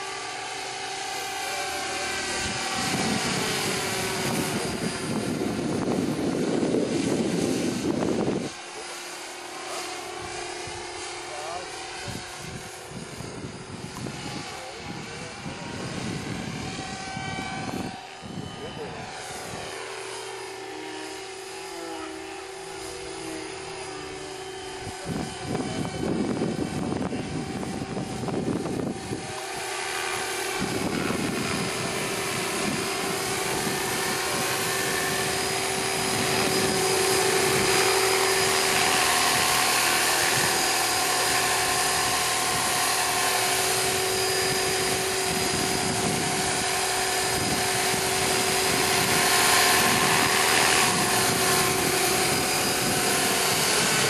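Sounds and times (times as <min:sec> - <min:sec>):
model helicopter whine: 0:00.0 - 0:54.0.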